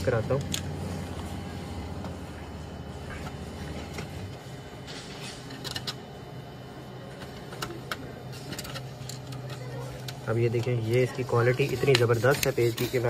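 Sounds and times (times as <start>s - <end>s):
printer humming: 0.0s - 13.0s.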